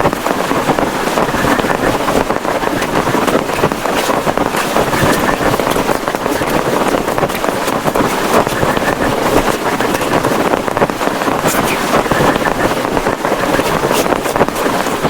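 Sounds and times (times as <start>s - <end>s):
heavy rain pelting down: 0.0s - 15.0s
strong wind: 0.0s - 15.0s.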